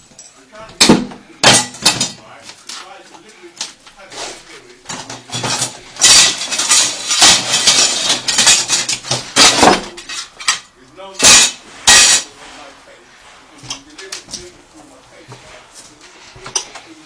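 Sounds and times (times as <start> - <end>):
metal tools clattering and scraping: 0.0 - 17.0.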